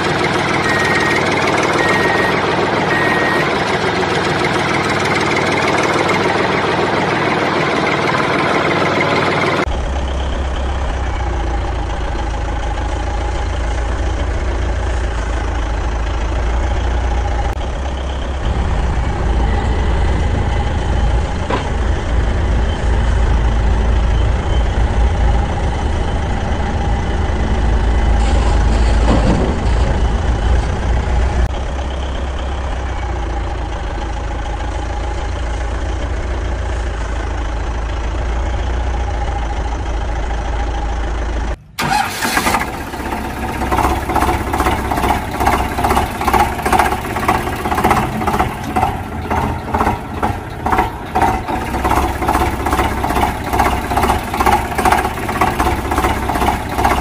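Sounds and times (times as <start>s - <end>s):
engine chugging: 0.0s - 57.0s
engine deep low rumble: 0.0s - 57.0s.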